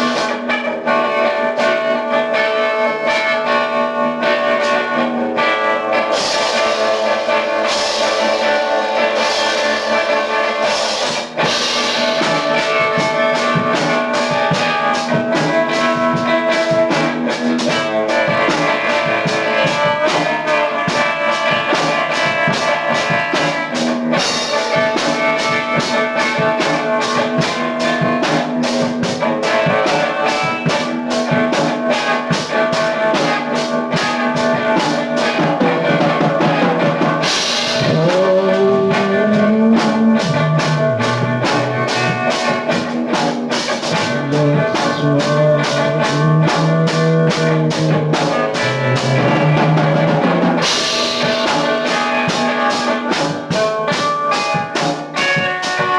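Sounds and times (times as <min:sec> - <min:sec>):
drum kit fast beat: 0:00.0 - 0:55.9
electric guitar: 0:00.0 - 0:55.9.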